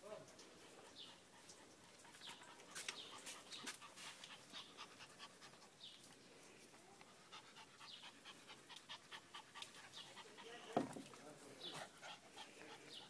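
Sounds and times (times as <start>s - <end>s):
dog panting: 0.5s - 13.0s.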